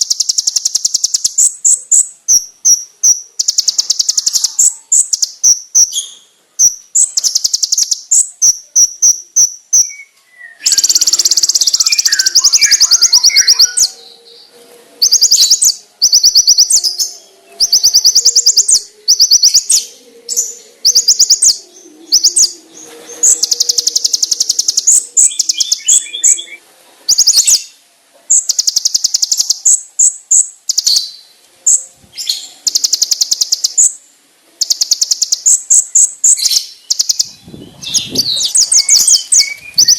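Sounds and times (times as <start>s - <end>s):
bird singing high sharp trills: 0.0s - 34.0s, 34.6s - 39.9s.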